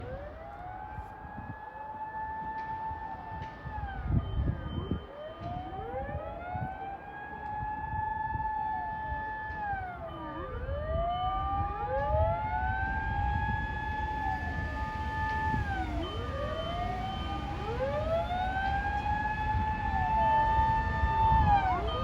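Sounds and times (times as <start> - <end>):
fire engine sirens wailing: 0.0 - 22.0
low rumble of engines and traffic: 0.0 - 22.0.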